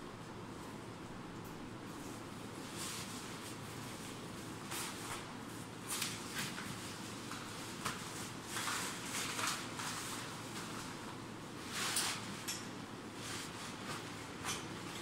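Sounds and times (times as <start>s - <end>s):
fabric cover rustling: 1.9s - 15.0s.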